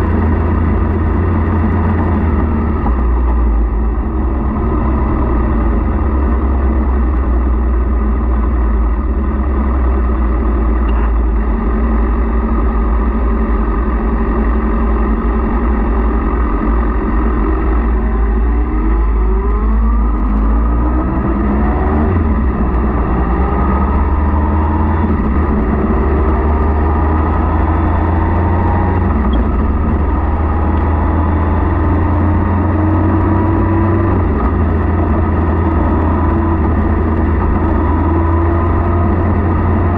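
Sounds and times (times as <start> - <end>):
motorcycle engine accelerating: 0.0 - 39.9
wind rumble: 0.0 - 39.9.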